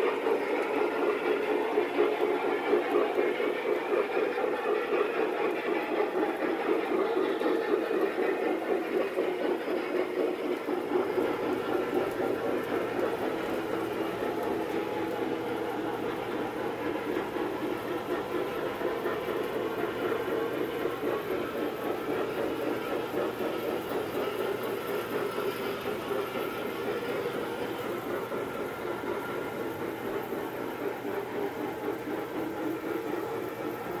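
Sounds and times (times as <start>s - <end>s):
model train wheels clattering: 0.0s - 34.0s.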